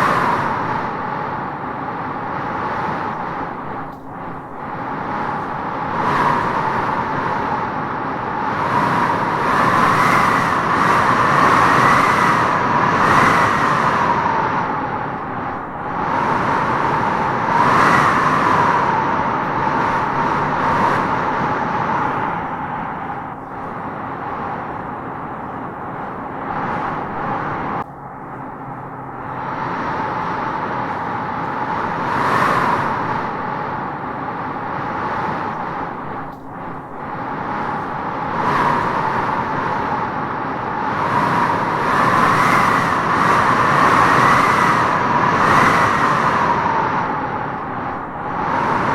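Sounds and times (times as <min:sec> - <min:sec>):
howling wind gusting through trees: 0:00.0 - 0:48.9.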